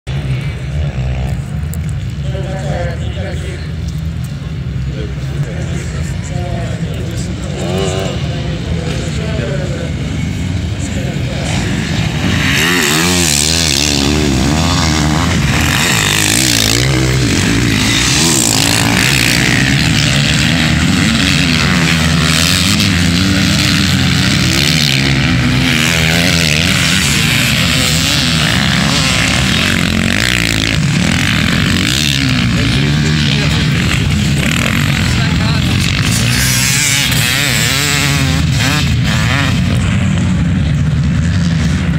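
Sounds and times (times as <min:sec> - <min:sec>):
motocross motorcycles revving: 0:00.0 - 0:41.9.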